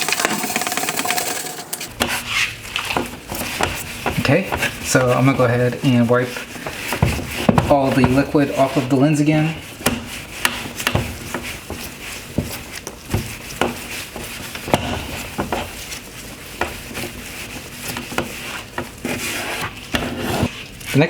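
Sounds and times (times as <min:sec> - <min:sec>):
rubbing and handling noise: 0:00.0 - 0:21.0.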